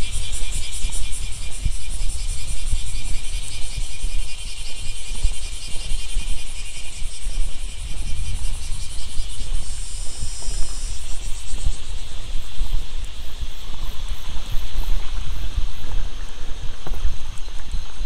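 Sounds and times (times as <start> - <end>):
high insect buzz: 0.0 - 17.0
insects trilling: 0.0 - 18.0.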